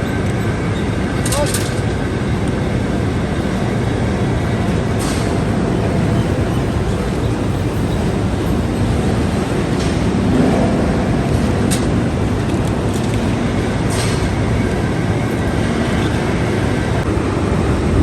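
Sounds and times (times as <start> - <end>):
steel mill machinery din: 0.0 - 18.0.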